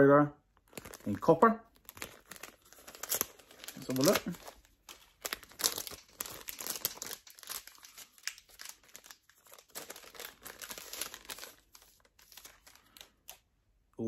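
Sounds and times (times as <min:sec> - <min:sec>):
plastic packet crinkling: 0:00.6 - 0:13.5.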